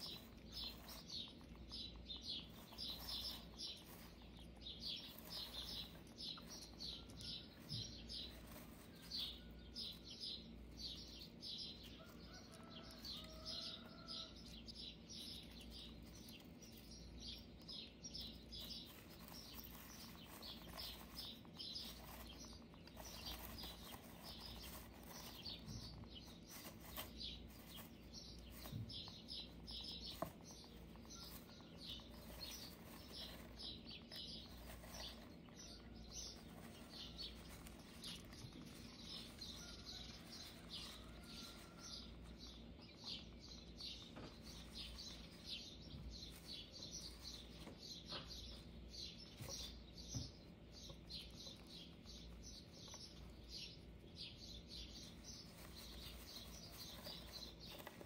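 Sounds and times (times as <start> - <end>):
rustling of wood shavings: 0.0 - 58.0.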